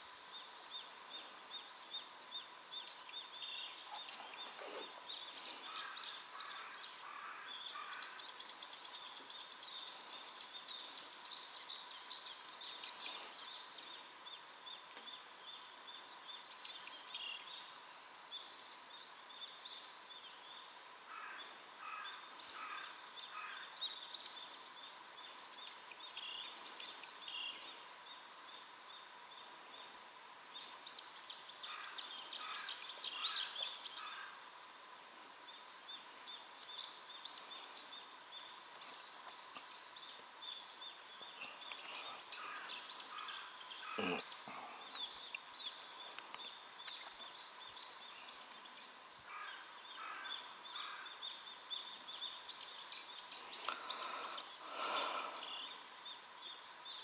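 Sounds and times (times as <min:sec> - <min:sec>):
wild birds chirping: 0:00.0 - 0:57.0.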